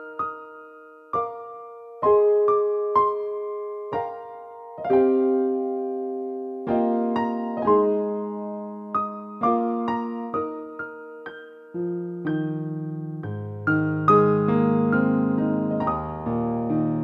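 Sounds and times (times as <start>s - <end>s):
slow soft keyboard music: 0.0s - 17.0s.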